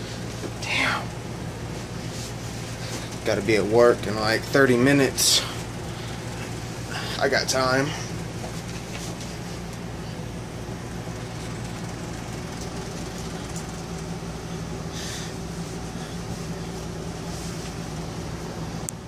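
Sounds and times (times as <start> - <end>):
air conditioning hum: 0.0 - 19.0.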